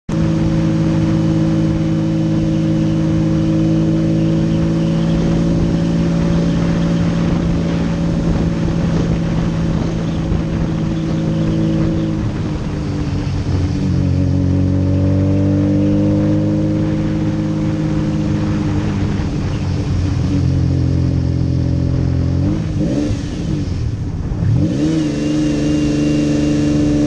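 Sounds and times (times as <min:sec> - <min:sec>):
road and wind noise: 0:00.0 - 0:27.0
car engine running: 0:00.1 - 0:27.0.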